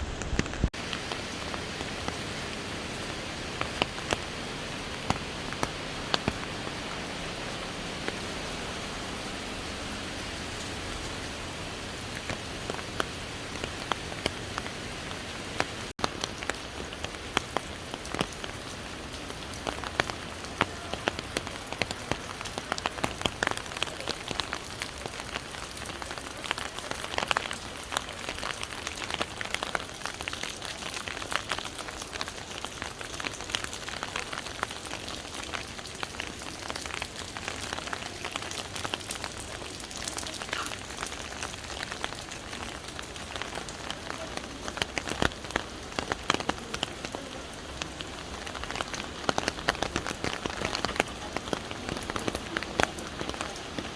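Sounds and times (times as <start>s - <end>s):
waterfall rushing and splashing: 0.0s - 30.3s, 36.1s - 53.9s.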